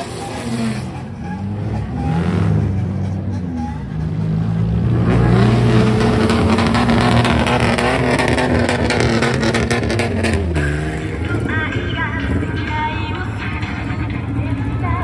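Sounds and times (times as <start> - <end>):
car engine revving with loud exhaust: 0.0 - 15.0.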